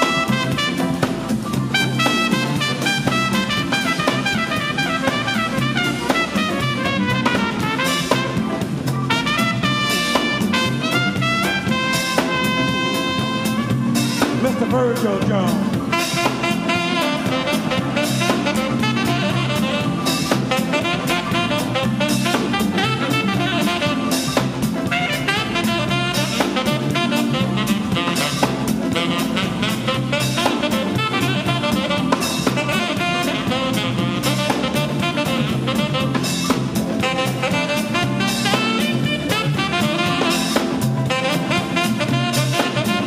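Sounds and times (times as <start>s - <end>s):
jazz band music: 0.0s - 43.0s
saxophone playing lead: 0.0s - 43.0s.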